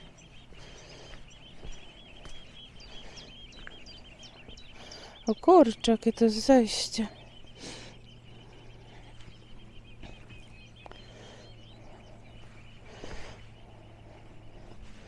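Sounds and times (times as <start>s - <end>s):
footsteps on stony path: 0.0s - 7.5s, 8.4s - 15.0s
songbird chirping: 0.0s - 15.0s.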